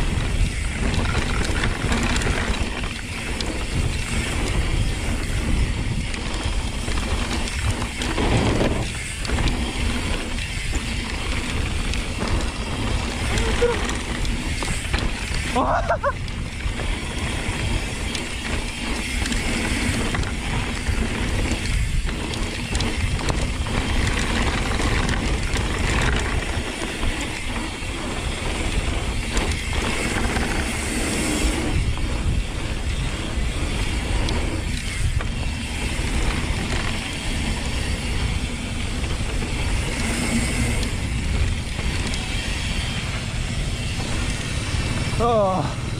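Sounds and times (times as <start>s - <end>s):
bike freehub ratcheting click: 0.0s - 45.6s
bike tyres rumbling on rough ground: 0.0s - 45.9s
chain and parts rattling: 0.0s - 45.9s.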